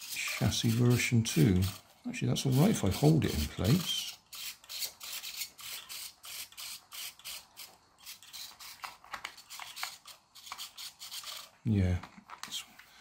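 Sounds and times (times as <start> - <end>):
plastic parts scraping together: 0.0 - 13.0.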